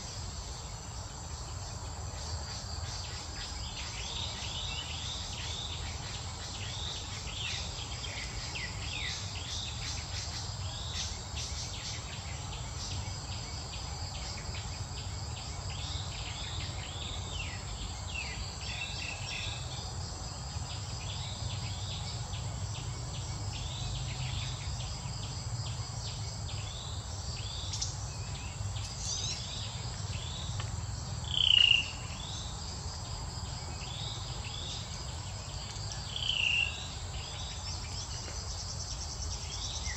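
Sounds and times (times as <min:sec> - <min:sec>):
constant high buzz: 0:00.0 - 0:39.9
insects chirping: 0:00.0 - 0:39.9.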